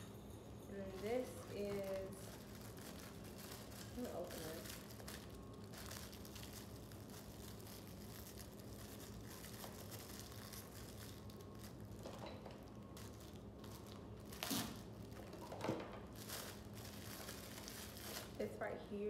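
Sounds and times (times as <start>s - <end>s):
packaging crinkling and tearing: 1.0s - 18.6s.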